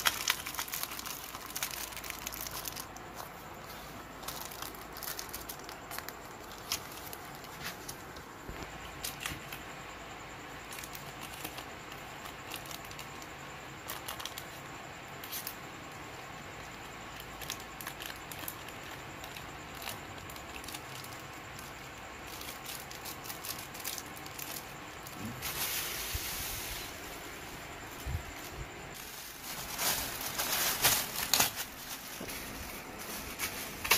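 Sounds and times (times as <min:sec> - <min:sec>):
plastic packaging crinkling: 0:00.0 - 0:09.6, 0:10.6 - 0:15.6, 0:17.1 - 0:26.7, 0:27.3 - 0:33.9.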